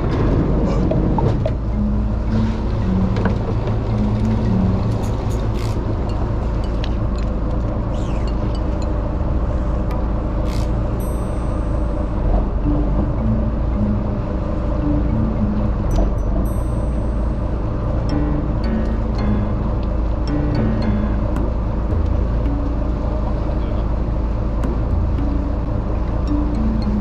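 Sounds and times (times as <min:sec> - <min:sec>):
low melody background music: 0:00.0 - 0:27.0
low rumble: 0:00.0 - 0:27.0.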